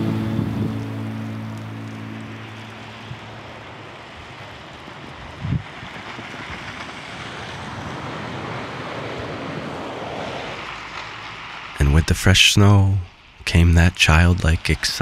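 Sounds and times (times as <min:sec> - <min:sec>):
blizzard wind blowing: 0:00.0 - 0:13.6.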